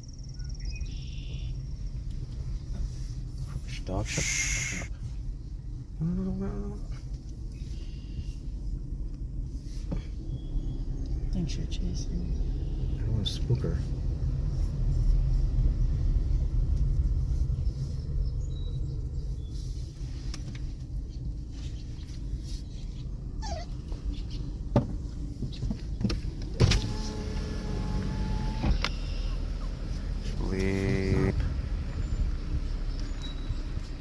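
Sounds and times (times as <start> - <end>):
car rumble from inside cabin: 0.0 - 34.0.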